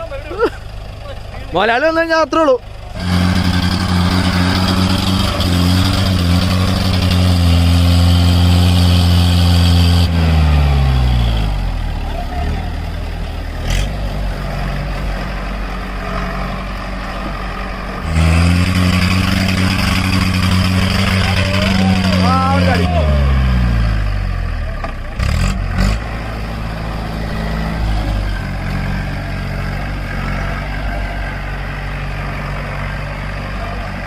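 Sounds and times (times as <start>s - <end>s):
jeep engine revving: 0.0s - 34.0s.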